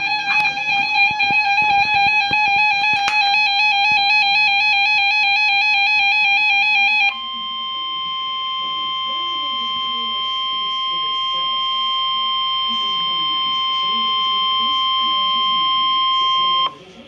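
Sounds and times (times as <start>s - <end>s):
warbling electronic alarm beeps: 0.0s - 16.8s.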